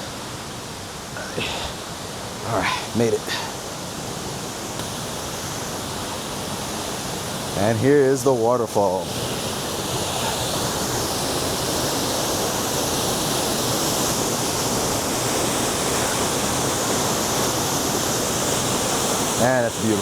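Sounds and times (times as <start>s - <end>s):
waterfall crashing into pool: 0.0s - 20.0s.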